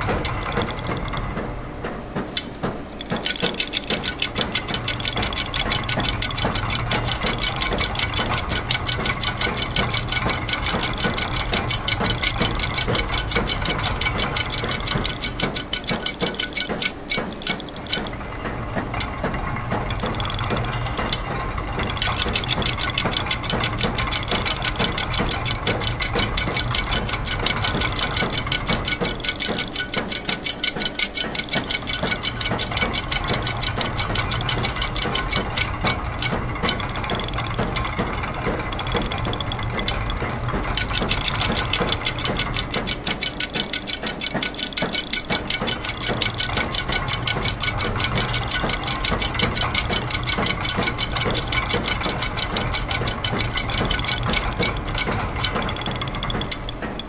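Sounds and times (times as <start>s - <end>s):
rapid ratchet and gear clicking: 0.0s - 1.6s, 2.2s - 57.0s
low mechanical hum: 0.0s - 57.0s.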